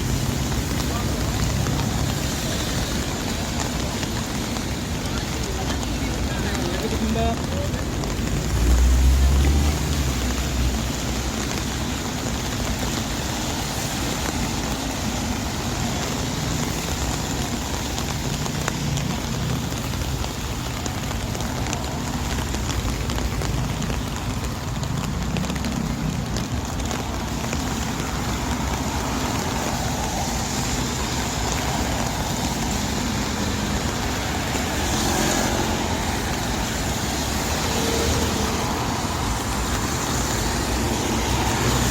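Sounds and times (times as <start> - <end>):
rain hiss: 0.0 - 41.9
traffic on wet pavement: 0.0 - 41.9.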